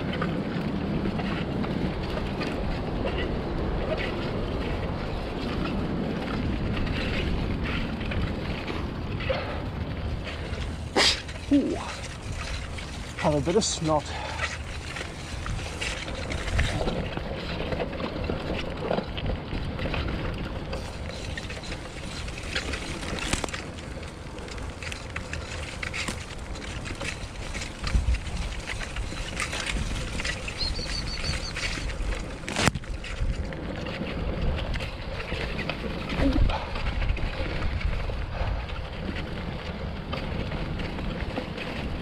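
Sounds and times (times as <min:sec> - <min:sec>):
bike rattles and knocks: 0:00.0 - 0:42.0
bike tyres rumbling on grass: 0:00.0 - 0:42.0.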